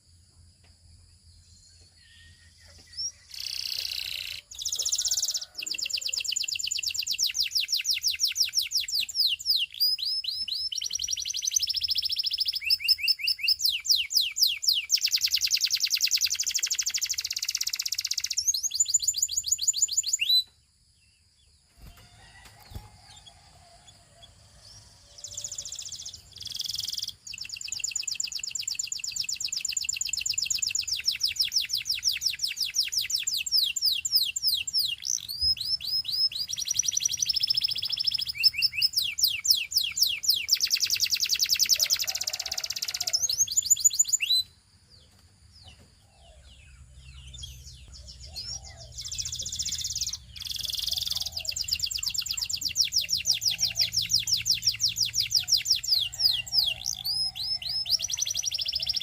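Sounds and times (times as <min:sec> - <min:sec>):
canary singing rapid trills: 0:02.1 - 0:20.5, 0:21.7 - 0:44.6, 0:46.2 - 0:59.0.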